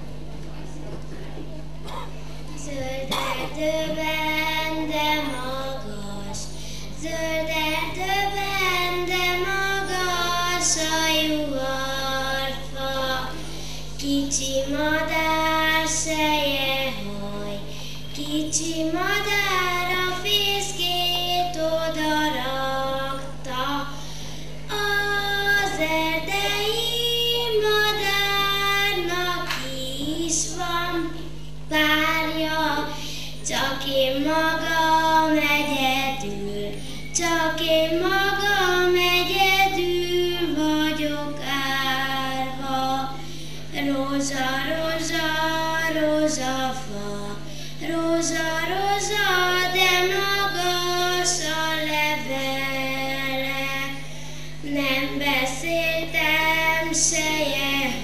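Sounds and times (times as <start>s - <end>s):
low electrical hum: 0.0s - 58.0s
girl singing into a microphone: 1.9s - 58.0s.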